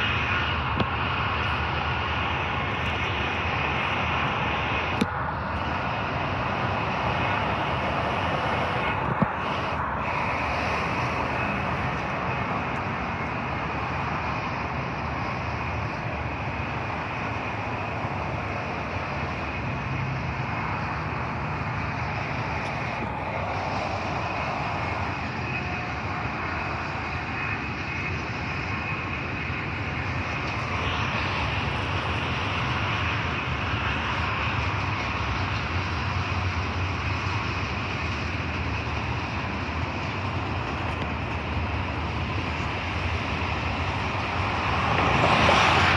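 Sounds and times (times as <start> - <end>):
train rolling past: 0.0 - 45.9.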